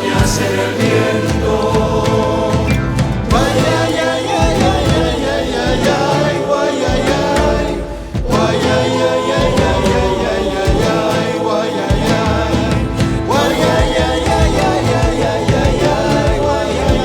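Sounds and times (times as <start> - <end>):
choir singing folk song: 0.0 - 17.0
instruments playing: 0.0 - 17.0.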